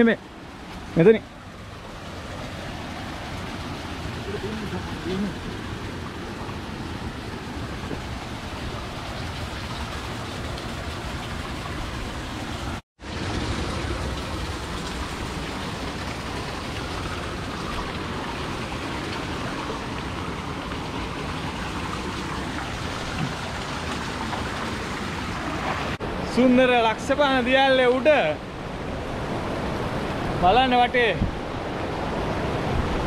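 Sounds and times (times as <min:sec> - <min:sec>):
river water rushing over rock: 0:00.0 - 0:33.0.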